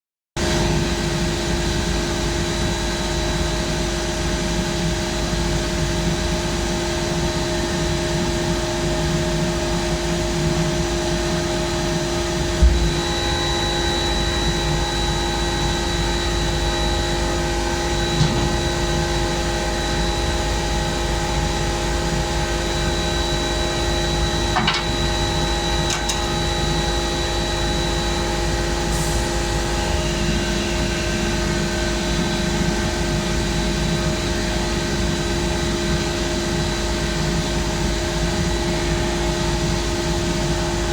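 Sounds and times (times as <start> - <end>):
air compressor drone: 0.4 - 40.9.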